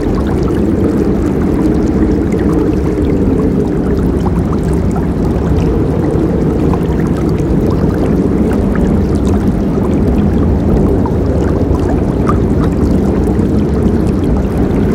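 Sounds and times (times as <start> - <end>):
water splashing and gurgling: 0.0 - 14.9.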